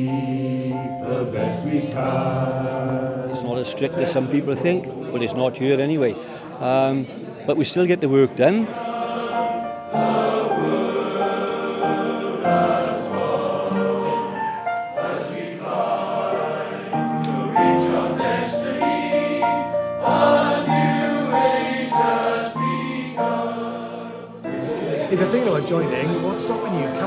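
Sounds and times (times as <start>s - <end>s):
male choir singing in harmony: 0.0s - 7.1s, 8.2s - 27.0s.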